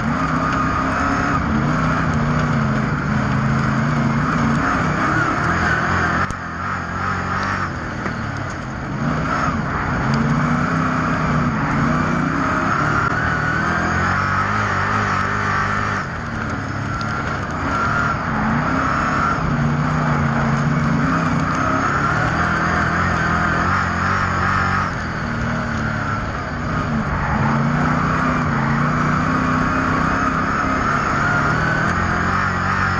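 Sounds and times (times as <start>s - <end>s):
race car engines running hard: 0.0s - 32.9s.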